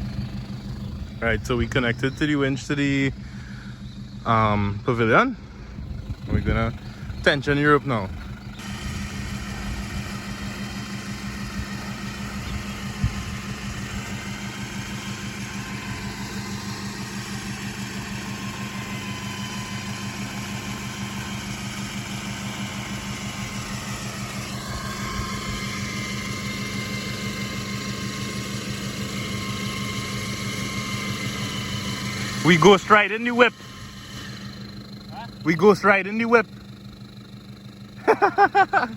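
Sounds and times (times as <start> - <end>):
engine idling: 0.0 - 38.9
winch motor whining: 0.0 - 38.9.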